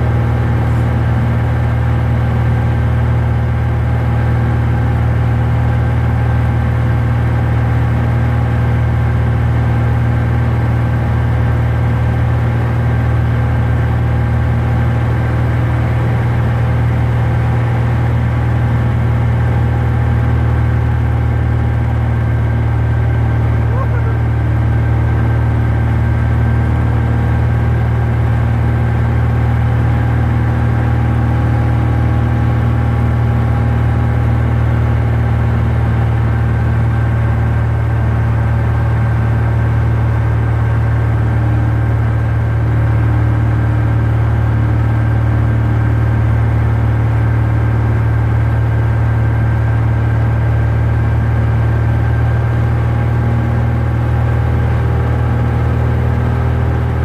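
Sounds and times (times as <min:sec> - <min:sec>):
aircraft engine droning in cabin: 0:00.0 - 0:57.0.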